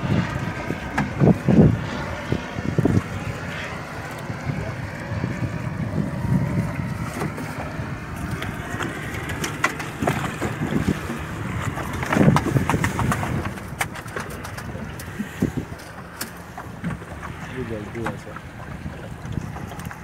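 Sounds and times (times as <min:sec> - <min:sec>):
boat rocking on sea: 0:00.0 - 0:20.0
wind buffeting microphone: 0:00.0 - 0:20.0.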